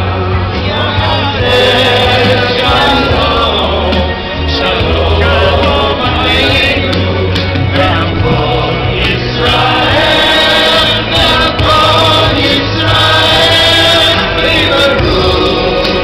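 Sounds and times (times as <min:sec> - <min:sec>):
low bass: 0:00.0 - 0:16.0
voices singing amplified music: 0:00.0 - 0:16.0.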